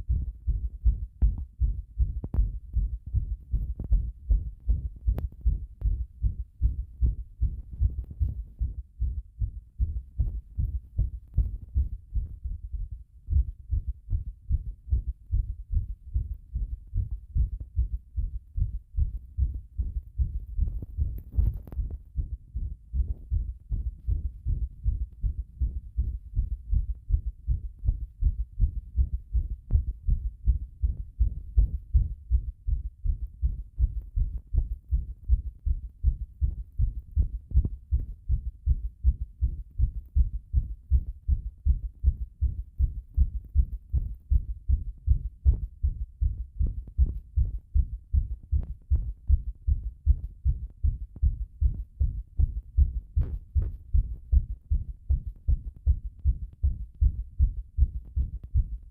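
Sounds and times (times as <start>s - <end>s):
heartbeat thumps: 0.0s - 58.9s.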